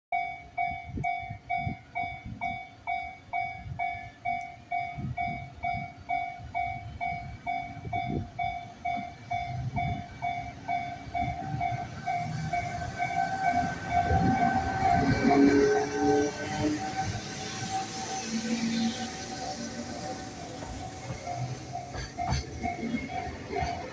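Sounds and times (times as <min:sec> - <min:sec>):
higher alarm tone: 0:00.2 - 0:23.8
approaching train rumble: 0:01.4 - 0:23.9.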